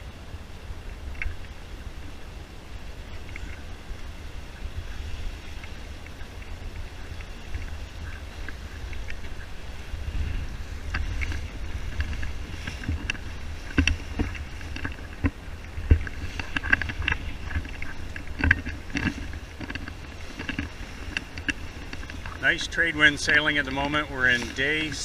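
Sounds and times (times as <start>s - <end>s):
water rushing along hull: 0.0s - 25.0s
waves slapping boat: 0.0s - 25.0s
wind rumble on microphone: 0.0s - 25.0s.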